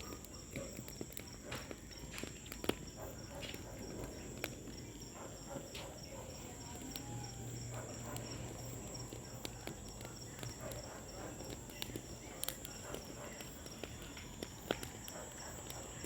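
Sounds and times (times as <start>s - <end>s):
bonfire crackling and popping: 0.0s - 16.0s
crickets chirring: 0.0s - 16.0s.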